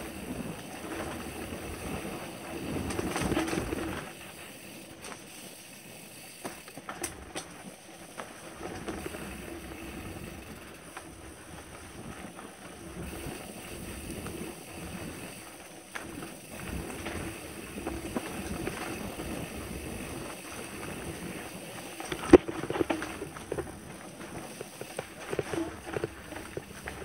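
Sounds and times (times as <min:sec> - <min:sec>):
bike rattling and clicking: 0:00.0 - 0:27.0
tyres rumbling over dirt: 0:00.0 - 0:27.0.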